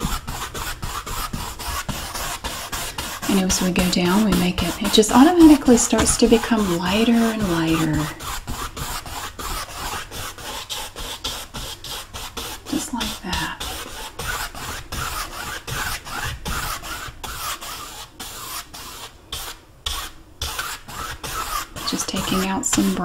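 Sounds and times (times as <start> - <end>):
paint brush scrubbing canvas: 0.0 - 23.0.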